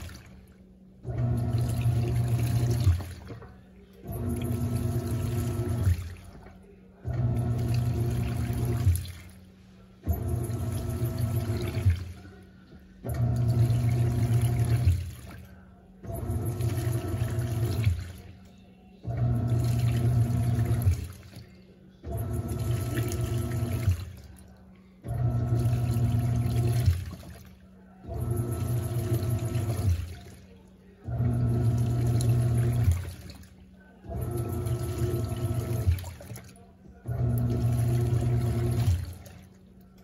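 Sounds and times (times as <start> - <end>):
washing machine motor humming: 0.0 - 40.0
water sloshing: 0.0 - 40.0.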